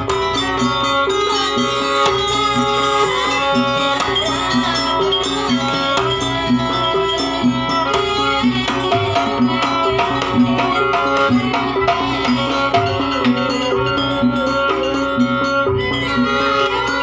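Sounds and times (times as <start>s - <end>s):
hand drumming: 0.0s - 16.8s
pitched melodic instruments: 0.0s - 17.0s.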